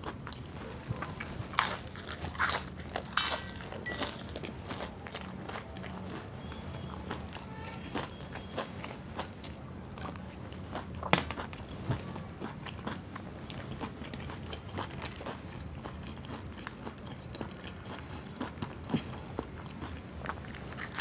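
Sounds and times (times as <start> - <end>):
crunchy biting and chewing: 0.0 - 21.0
low steady hum: 0.0 - 21.0.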